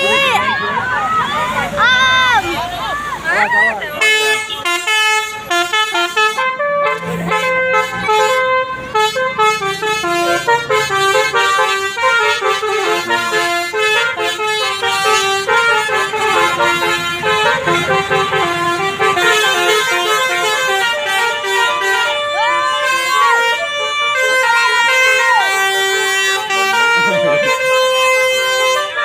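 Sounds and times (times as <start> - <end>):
bus engine hum: 0.0 - 29.0
bus multi-tone horn melody: 3.1 - 29.0.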